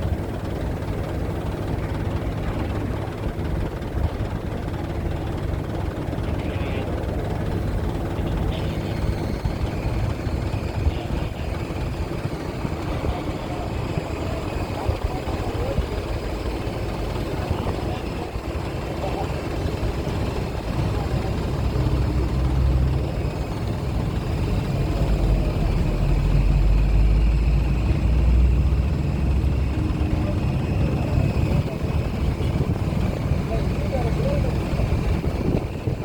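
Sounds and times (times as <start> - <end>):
diesel engine rumbling: 0.0 - 36.0
traffic hum: 0.0 - 36.0.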